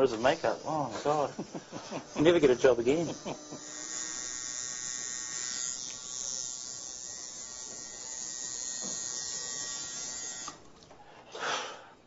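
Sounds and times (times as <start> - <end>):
tattoo machine buzzing: 0.0 - 10.8.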